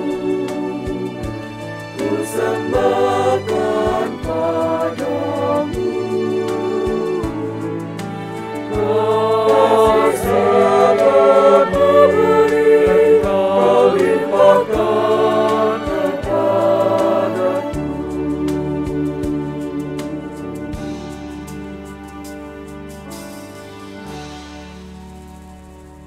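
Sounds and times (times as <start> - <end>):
mixed choir singing: 0.0 - 21.2
instrumental accompaniment: 0.0 - 26.0.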